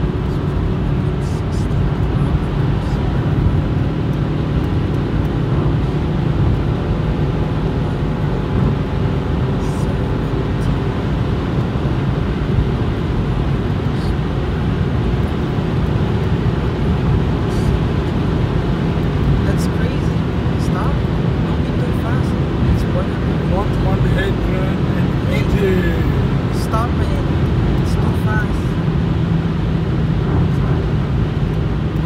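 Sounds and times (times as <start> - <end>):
faint engine hum: 0.0 - 32.0
road and wind noise in car: 0.0 - 32.0.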